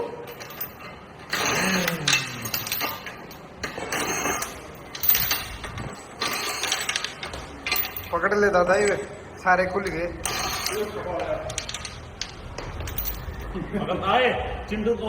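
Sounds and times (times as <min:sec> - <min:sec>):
hand tools ratcheting and clanking: 0:00.0 - 0:09.2, 0:09.8 - 0:13.5.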